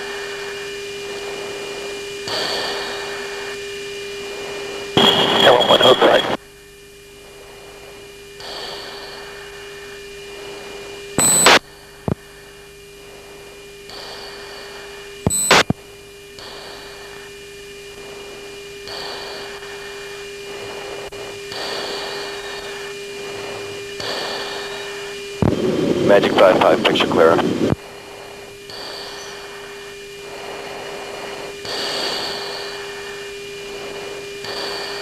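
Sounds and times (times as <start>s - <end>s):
steady electronic tone: 1.8s - 6.4s, 7.7s - 35.0s.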